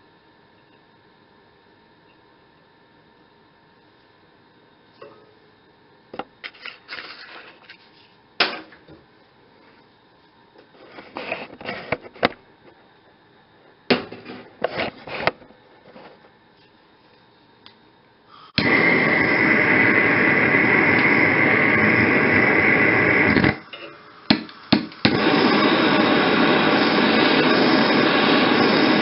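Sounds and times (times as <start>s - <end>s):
propane torch flame hissing: 1.0s - 29.0s.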